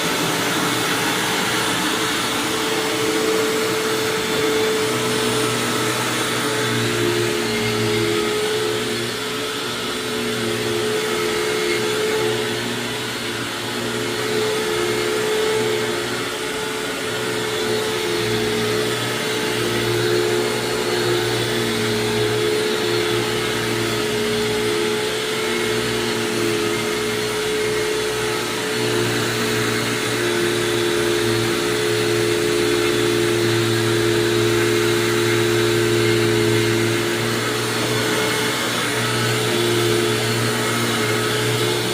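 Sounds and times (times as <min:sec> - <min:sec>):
upright vacuum motor humming: 0:00.0 - 0:41.9.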